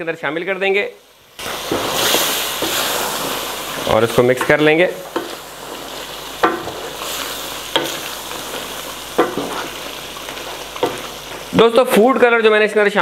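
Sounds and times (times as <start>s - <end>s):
curry sizzling in a pot: 0.2s - 13.0s.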